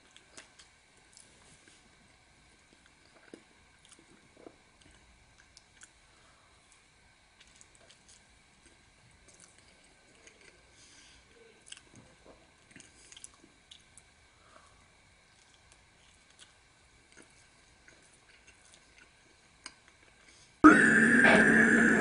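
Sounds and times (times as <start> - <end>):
faint chewing: 0.0 - 20.6.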